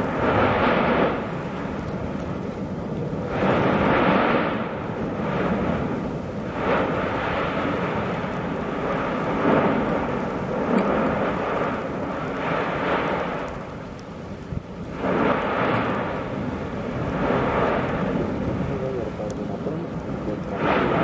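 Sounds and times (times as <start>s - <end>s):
volcano rumbling: 0.0s - 21.0s.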